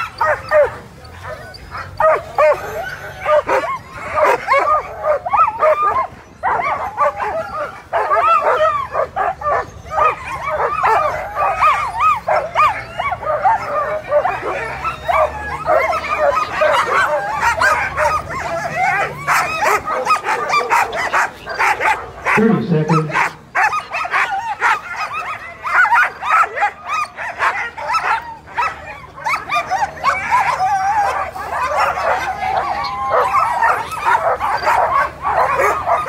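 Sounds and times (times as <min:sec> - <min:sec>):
sled dogs barking and yipping: 0:00.0 - 0:36.0.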